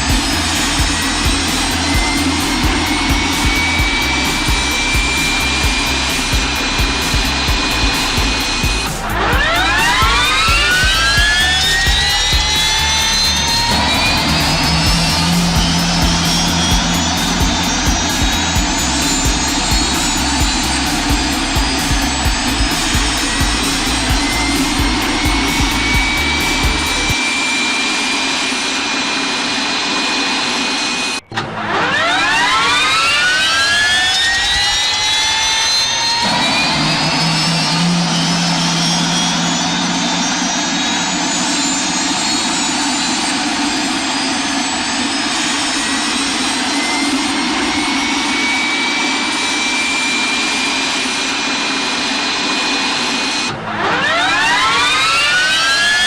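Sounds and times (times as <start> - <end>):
jet engine turbine whine: 0.0 - 56.0.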